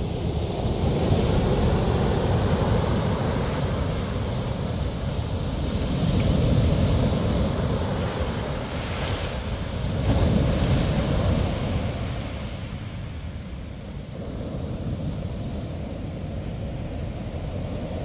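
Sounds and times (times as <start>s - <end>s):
ocean surf breaking: 0.0s - 18.0s
wind rumbling on microphone: 0.0s - 18.0s.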